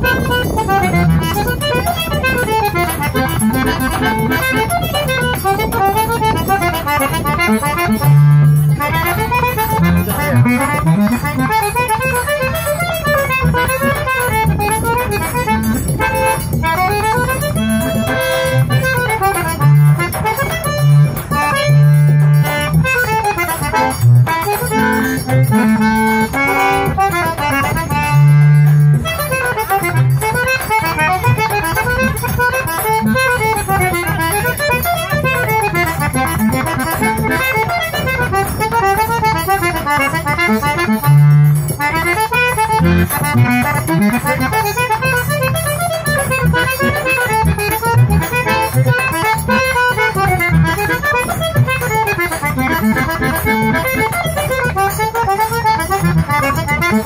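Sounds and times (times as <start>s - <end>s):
button accordion melody: 0.0s - 57.0s.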